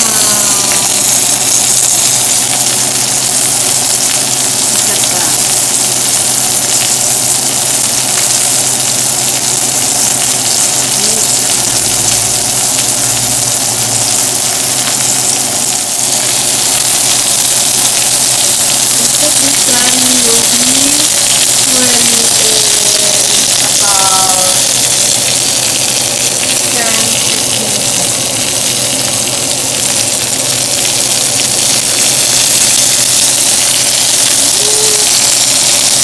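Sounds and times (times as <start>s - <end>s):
steak sizzling in a pan: 0.0s - 36.0s.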